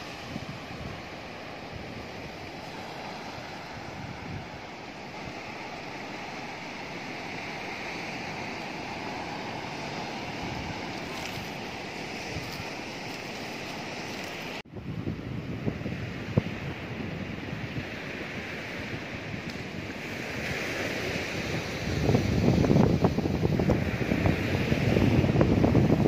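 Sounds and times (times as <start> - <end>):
surf washing up pebble beach: 0.0 - 14.6, 15.5 - 26.0
wind on microphone: 0.0 - 26.0.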